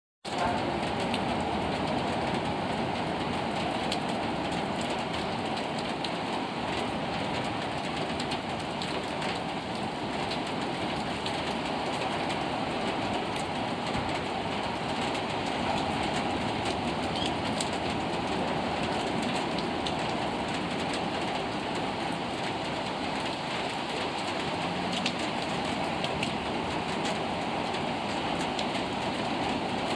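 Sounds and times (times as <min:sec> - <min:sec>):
steady rain falling: 0:00.2 - 0:29.9.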